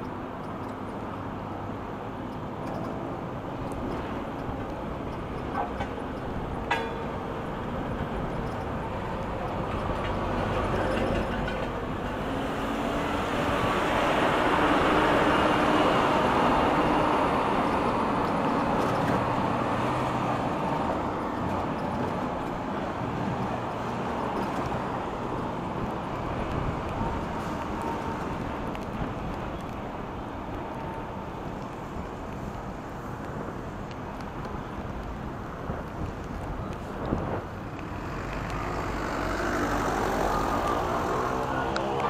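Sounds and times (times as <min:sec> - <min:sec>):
bus passing: 0:00.0 - 0:42.0
road traffic: 0:00.0 - 0:42.0.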